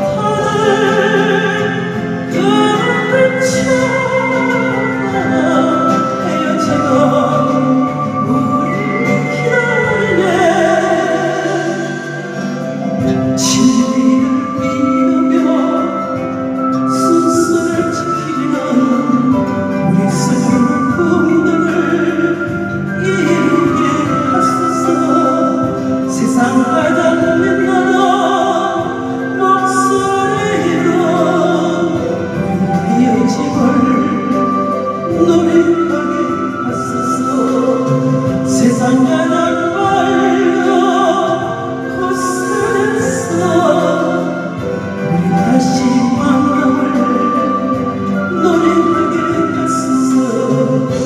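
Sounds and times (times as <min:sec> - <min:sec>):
instrumental accompaniment: 0:00.0 - 0:51.0.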